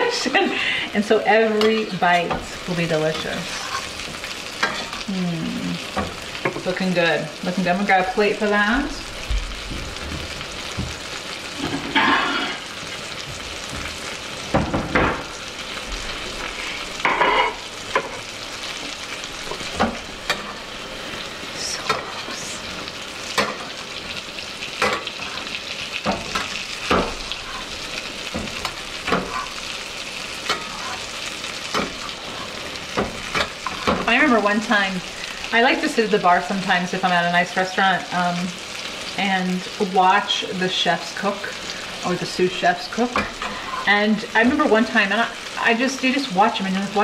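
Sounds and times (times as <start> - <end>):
fish sizzling in butter: 0.0 - 47.0.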